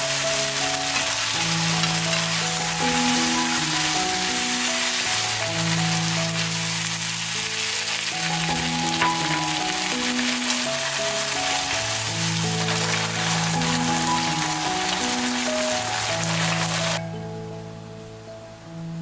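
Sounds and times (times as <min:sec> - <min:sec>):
food sizzling in a wok: 0:00.0 - 0:17.0
soft background music: 0:00.0 - 0:19.0.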